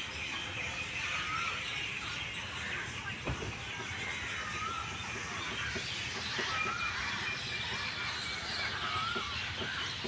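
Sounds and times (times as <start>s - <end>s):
birds chirping and calling: 0.0s - 10.0s
outdoor background noise: 0.0s - 10.0s.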